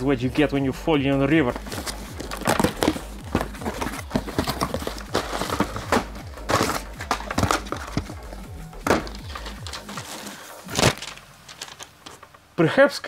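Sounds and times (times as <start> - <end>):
rustling of cardboard and paper: 1.2 - 12.5.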